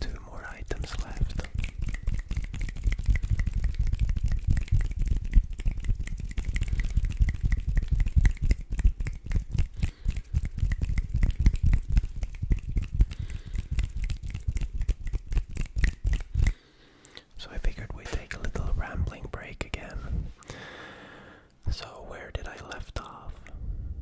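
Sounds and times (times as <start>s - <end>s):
hands rubbing near microphone: 0.0s - 16.5s, 17.5s - 20.3s.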